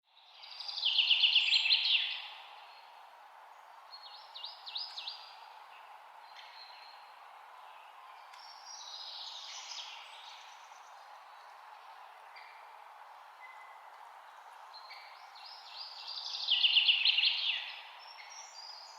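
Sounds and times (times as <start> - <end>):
songbirds singing: 0.1 - 18.9
steady ambient hiss: 0.2 - 18.9.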